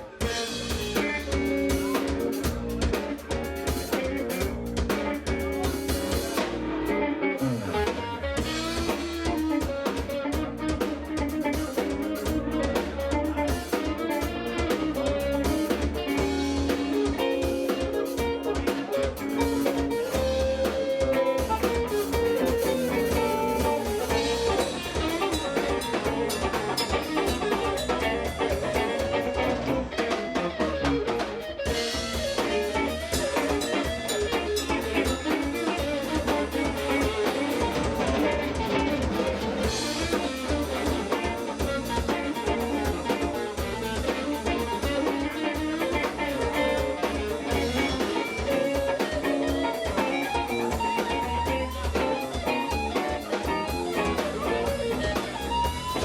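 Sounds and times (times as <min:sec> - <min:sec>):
live band jazz-funk groove: 0:00.0 - 0:56.0.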